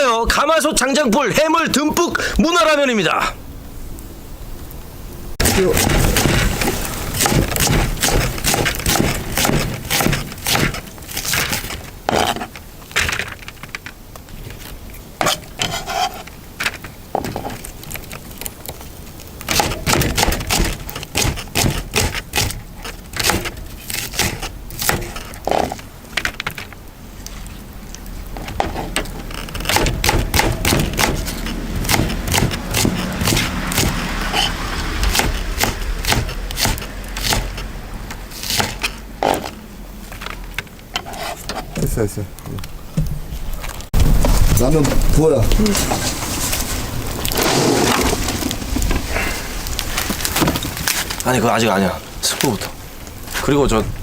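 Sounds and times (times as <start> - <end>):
firewood cracking and knocking: 5.4 - 54.0.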